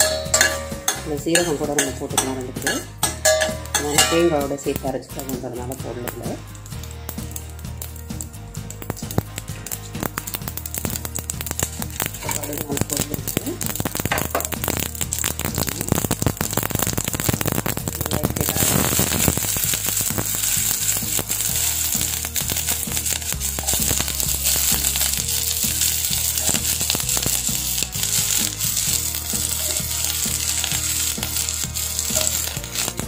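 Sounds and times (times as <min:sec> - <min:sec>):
mustard seeds popping in oil: 0:00.0 - 0:33.0
onions sizzling in oil: 0:00.0 - 0:33.0.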